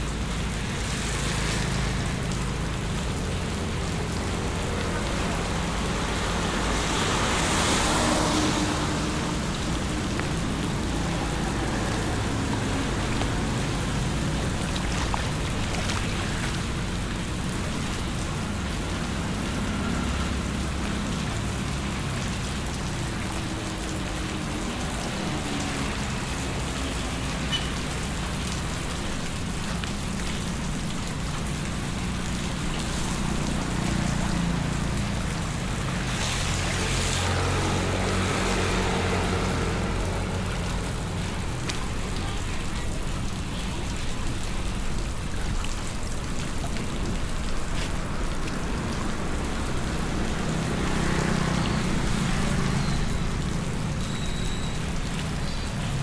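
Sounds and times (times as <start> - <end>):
heavy rain falling: 0.0 - 56.0
low vehicle rumble: 0.0 - 56.0.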